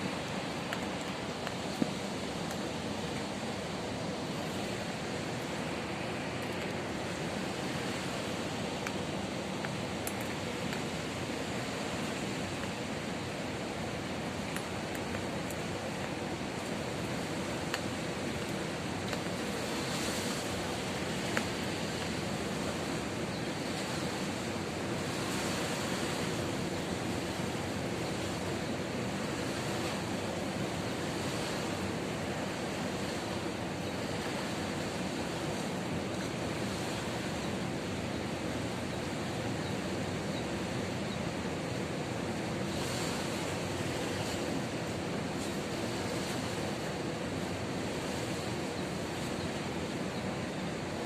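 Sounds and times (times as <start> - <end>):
ocean surf breaking on beach: 0.0 - 51.0.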